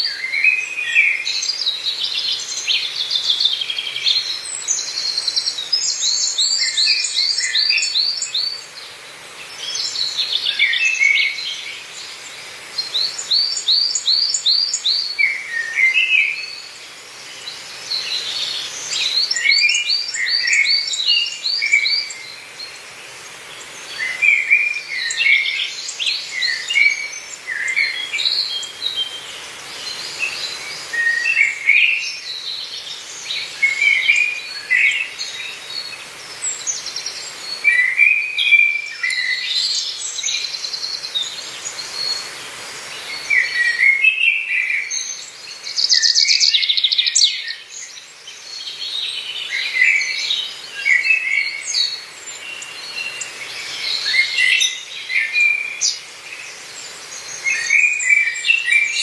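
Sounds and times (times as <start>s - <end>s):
faint background hiss: 0.0s - 59.0s
songbirds chirping and trilling: 0.0s - 59.0s.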